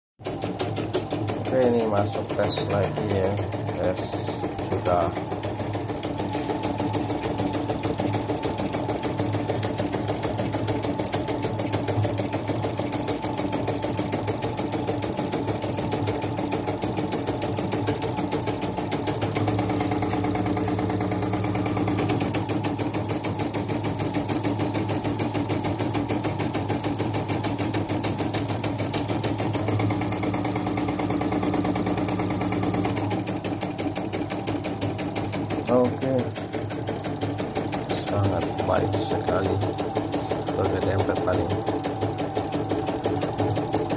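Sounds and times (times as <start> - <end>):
embroidery machine needle clatter: 0.2 - 43.9.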